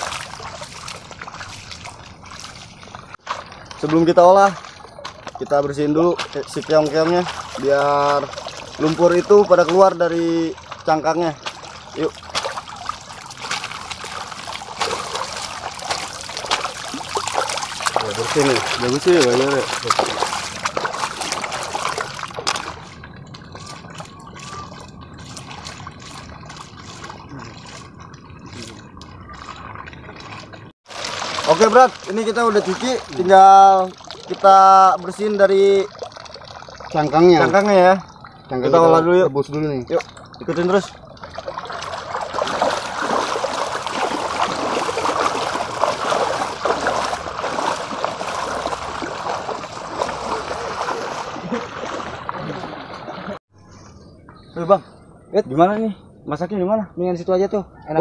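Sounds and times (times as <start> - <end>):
hands splashing water: 0.0 - 37.7, 39.5 - 53.4.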